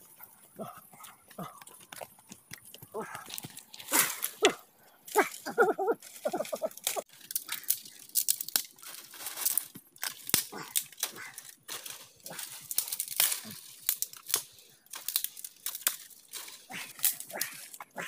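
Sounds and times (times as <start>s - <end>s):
dry twigs snapping and rustling: 3.3s - 18.0s.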